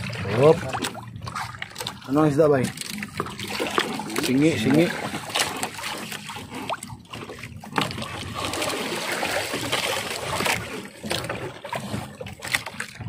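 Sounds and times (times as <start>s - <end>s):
water dripping and splashing: 0.0s - 13.0s
wet net being hauled: 0.0s - 13.0s.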